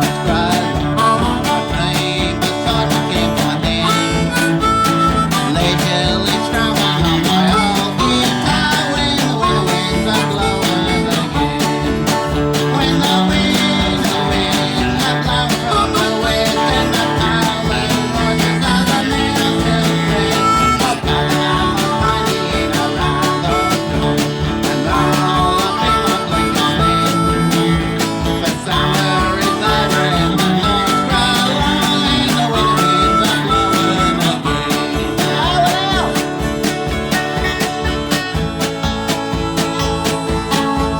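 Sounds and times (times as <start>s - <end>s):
acoustic country band playing: 0.0s - 40.9s
harmonica: 0.0s - 40.9s.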